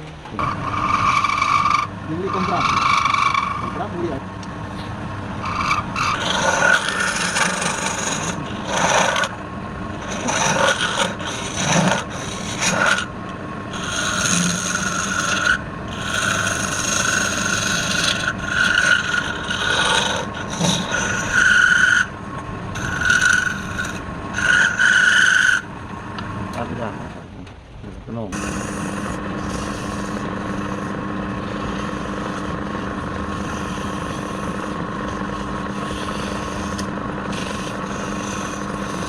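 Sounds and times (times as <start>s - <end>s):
lathe tool cutting wood: 0.4s - 4.2s, 5.3s - 13.1s, 13.7s - 27.1s, 28.4s - 39.0s.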